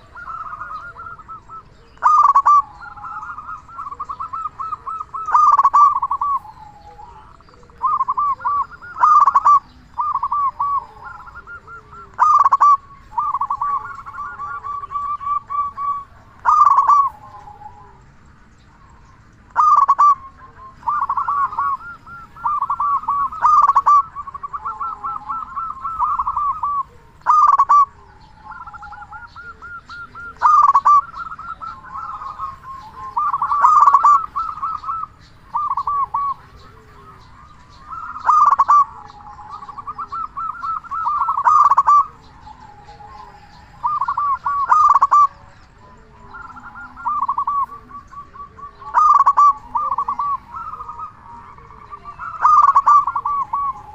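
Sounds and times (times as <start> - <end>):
dove cooing: 0.0 - 53.9.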